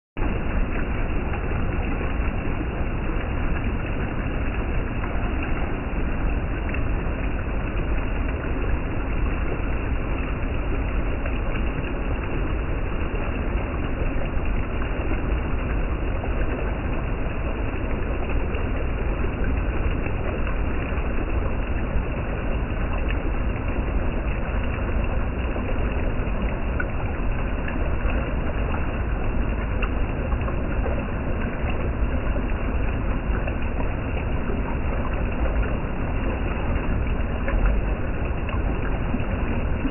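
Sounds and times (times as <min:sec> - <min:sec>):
cascade falling into pool: 0:00.2 - 0:39.9
stream rushing over rock: 0:00.2 - 0:39.9.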